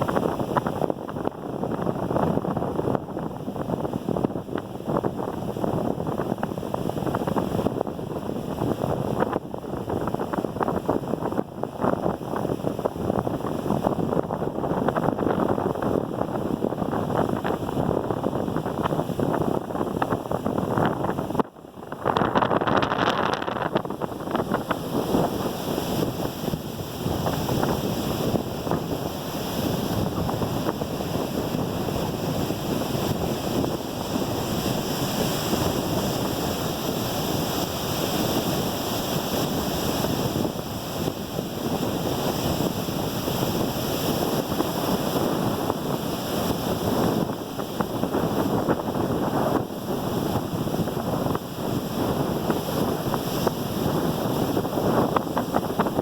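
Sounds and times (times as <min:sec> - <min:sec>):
rough sea surf breaking: 0:00.0 - 0:56.0
wind buffeting microphone: 0:00.0 - 0:56.0.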